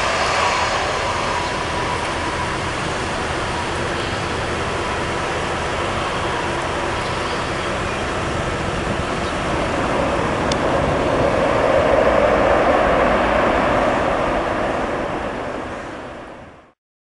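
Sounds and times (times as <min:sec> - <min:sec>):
jet engine roar: 0:00.0 - 0:16.8.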